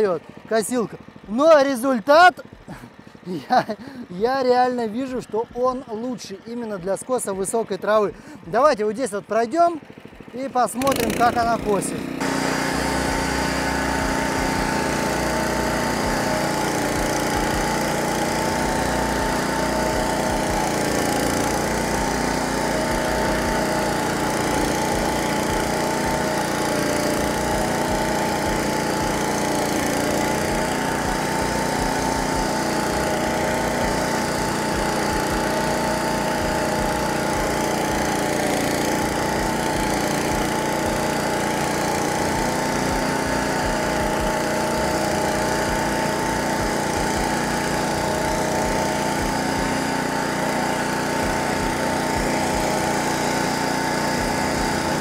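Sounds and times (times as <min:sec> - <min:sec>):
flail mower running: 0:00.0 - 0:55.0.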